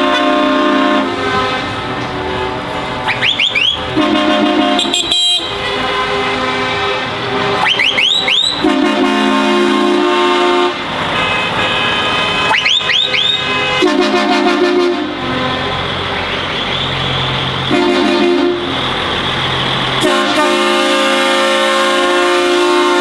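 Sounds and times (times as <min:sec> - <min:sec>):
lorry air horn blasts: 0:00.0 - 0:02.6, 0:03.2 - 0:17.0, 0:17.7 - 0:18.8, 0:20.0 - 0:23.0
engine and road noise: 0:00.0 - 0:23.0.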